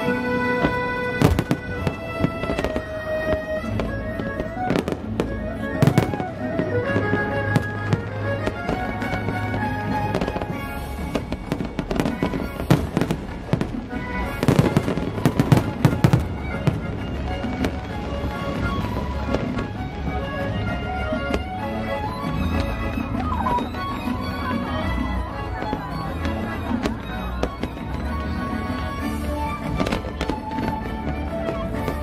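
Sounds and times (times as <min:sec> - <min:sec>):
fireworks bangs and crackles: 0:00.0 - 0:32.0
music: 0:00.0 - 0:32.0.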